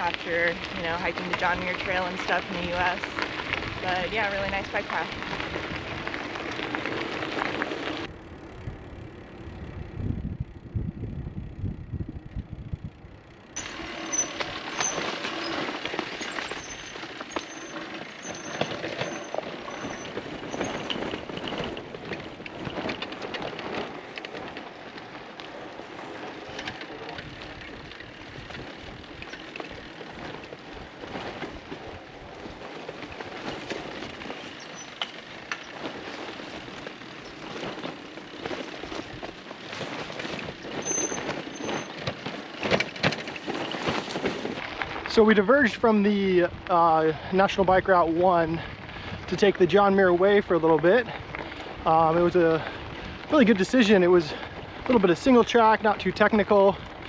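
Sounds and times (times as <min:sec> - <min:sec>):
bicycles rattling over dirt: 0:00.0 - 0:57.0
wind noise: 0:00.0 - 0:57.0.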